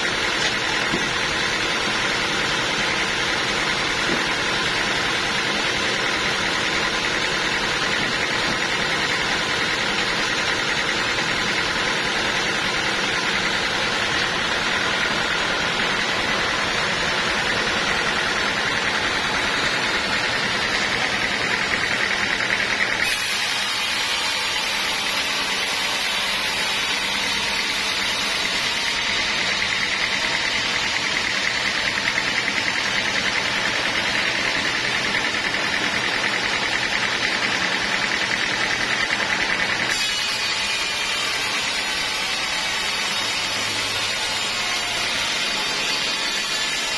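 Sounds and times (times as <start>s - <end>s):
sawmill saw running: 0.0s - 46.9s.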